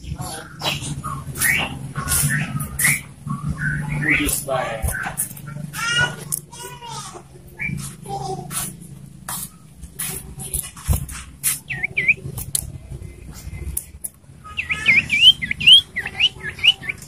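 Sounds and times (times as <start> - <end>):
bird chirping and calling: 0.0 - 17.0.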